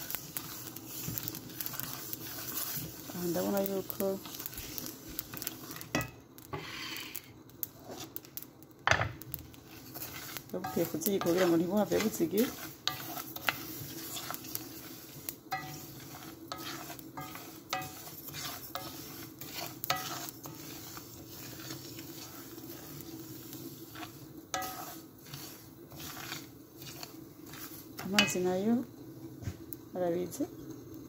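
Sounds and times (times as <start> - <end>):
spatula scraping grains in pan: 0.0 - 8.4, 9.2 - 29.3.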